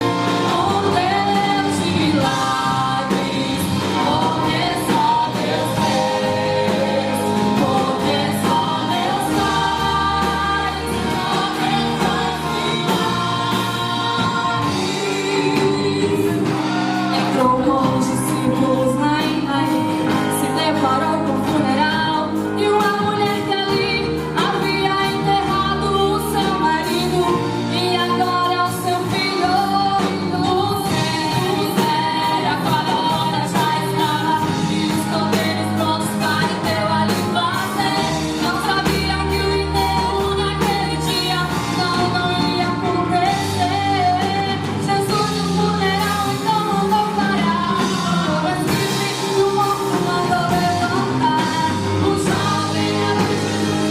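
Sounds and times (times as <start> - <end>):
instrumental backing with bass: 0.0 - 53.9
voices singing worship song: 0.0 - 53.9.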